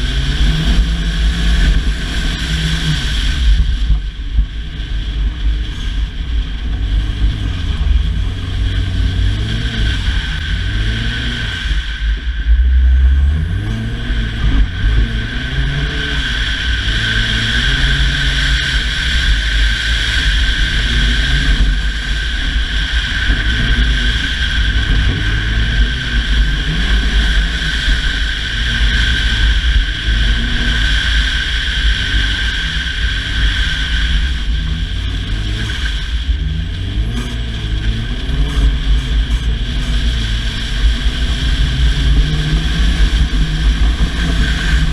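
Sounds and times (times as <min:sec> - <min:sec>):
car engine revving: 0:00.0 - 0:44.9
loud steady rushing noise: 0:00.0 - 0:44.9.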